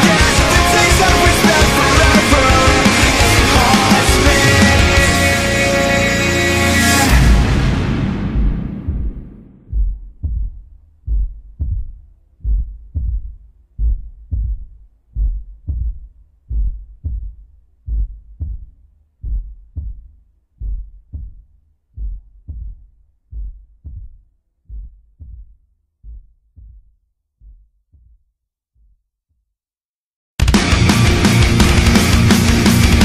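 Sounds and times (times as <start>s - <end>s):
heartbeat thumps: 0.0s - 5.2s, 7.5s - 29.0s.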